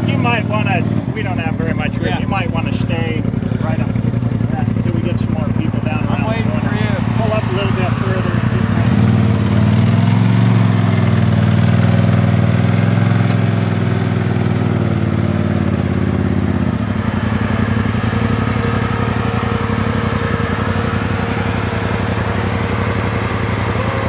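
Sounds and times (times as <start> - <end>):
utility vehicle engine running: 0.0 - 24.0.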